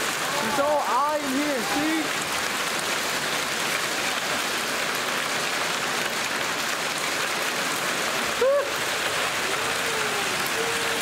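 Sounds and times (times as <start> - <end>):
hail and rain on tiles: 0.0 - 11.0.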